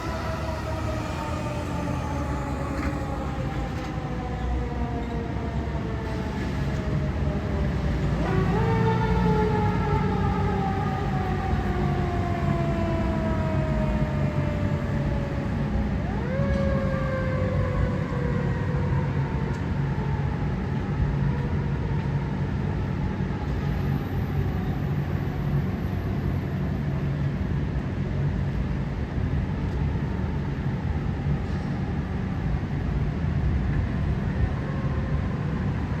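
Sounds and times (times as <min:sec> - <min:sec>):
fire engine siren winding down: 0:00.0 - 0:27.4, 0:28.2 - 0:36.0
engine low rumble: 0:00.0 - 0:36.0.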